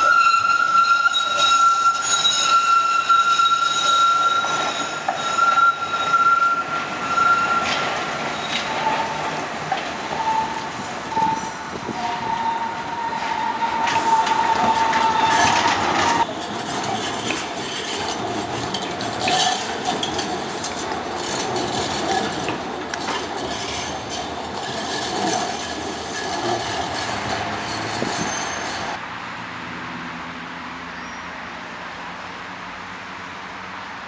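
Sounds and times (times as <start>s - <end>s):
tram rolling past: 0.0s - 29.0s
tram wheel squeal: 0.0s - 29.0s, 31.0s - 31.4s.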